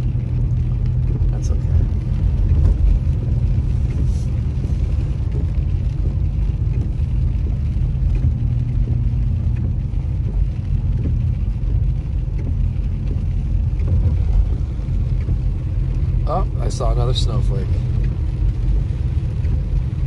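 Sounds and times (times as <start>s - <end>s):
car cabin road noise: 0.0s - 20.0s.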